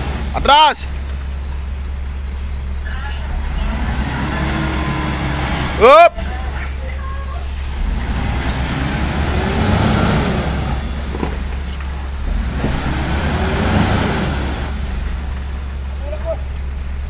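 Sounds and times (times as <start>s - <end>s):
diesel truck engine revving: 0.0s - 17.0s.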